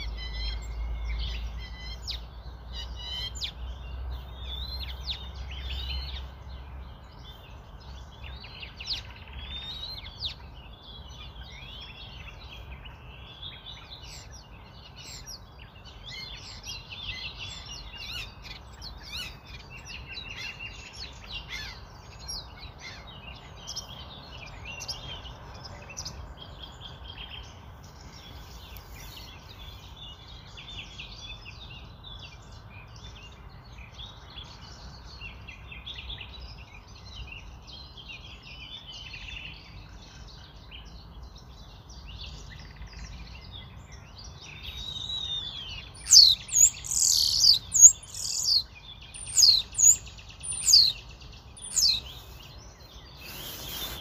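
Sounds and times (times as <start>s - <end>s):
birds chirping: 0.0s - 54.0s
low steady background noise: 0.0s - 54.0s.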